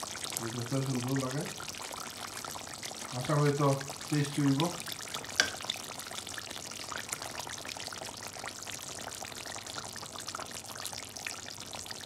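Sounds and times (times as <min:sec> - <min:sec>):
curry bubbling and sizzling: 0:00.0 - 0:12.0.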